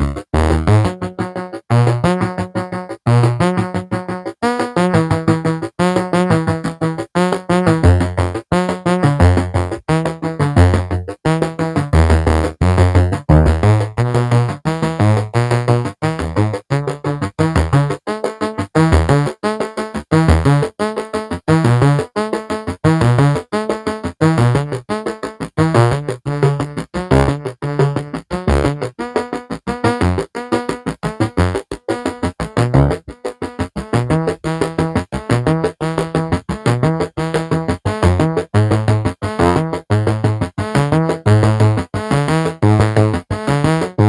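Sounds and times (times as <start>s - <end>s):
synthesizer bass notes: 0.0s - 18.0s, 25.6s - 29.0s, 29.6s - 44.0s
plucked synthesizer notes: 0.0s - 44.0s.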